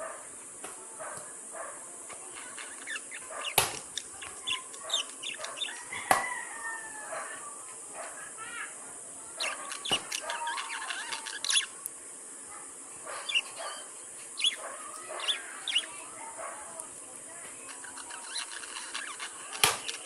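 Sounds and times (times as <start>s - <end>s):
birds chirping: 2.2s - 20.0s.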